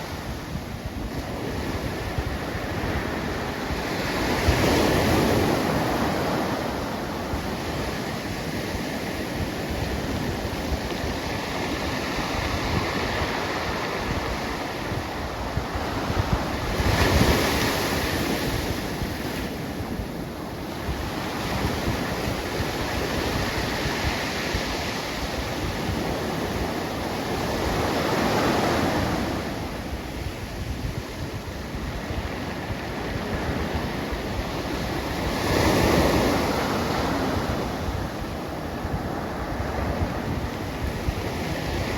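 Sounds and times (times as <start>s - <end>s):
ocean waves breaking: 0.0s - 41.9s
wind on microphone: 0.0s - 41.9s.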